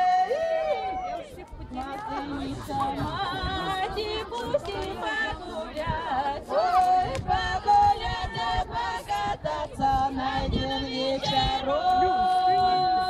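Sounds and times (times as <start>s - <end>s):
group singing: 1.4s - 13.0s.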